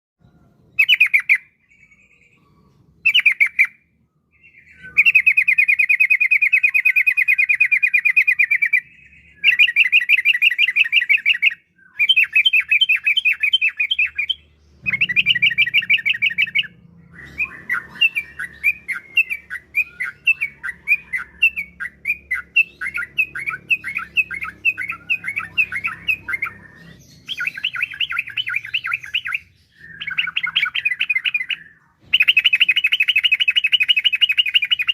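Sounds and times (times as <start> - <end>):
bird singing chattering notes: 0.7 - 34.9.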